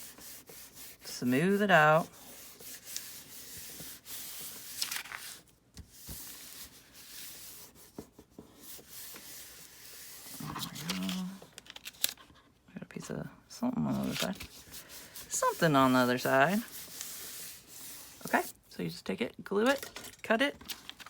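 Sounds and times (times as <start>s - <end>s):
hand rubbing paper: 0.0s - 12.2s, 13.9s - 18.6s.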